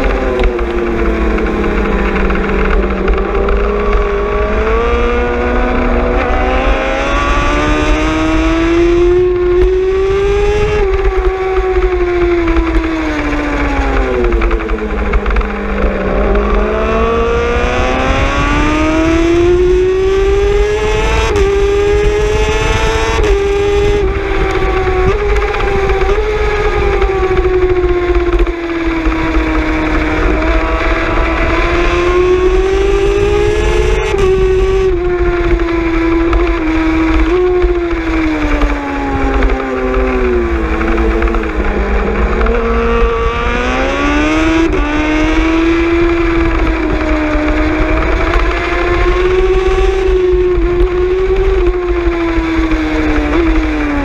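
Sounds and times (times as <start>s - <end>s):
motorcycle engine at high revs: 0.0s - 54.0s
wind rumble on microphone: 0.0s - 54.0s.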